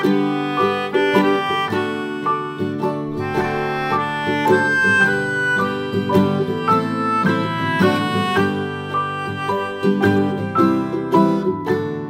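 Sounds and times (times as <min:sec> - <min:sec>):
instrumental music with plucked notes: 0:00.0 - 0:12.0.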